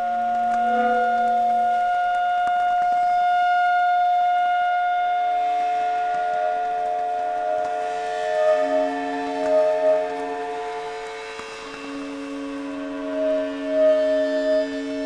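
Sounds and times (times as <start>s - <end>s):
droning held tones: 0.0s - 15.0s.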